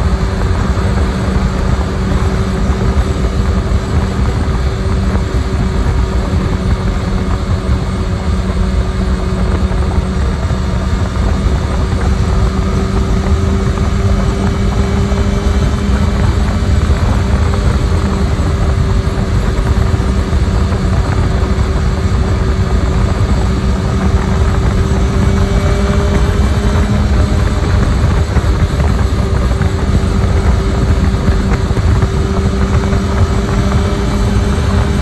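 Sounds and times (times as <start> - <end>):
motorcycle engine cruising: 0.0 - 35.0
wind rush on microphone: 0.0 - 35.0.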